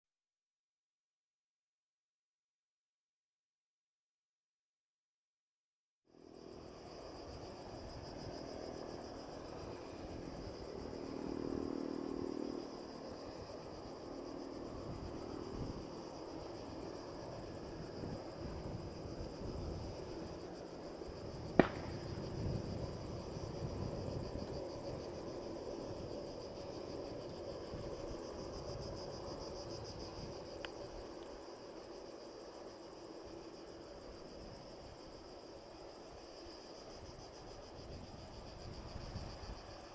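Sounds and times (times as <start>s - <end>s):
insects chirring: 6.1s - 39.9s.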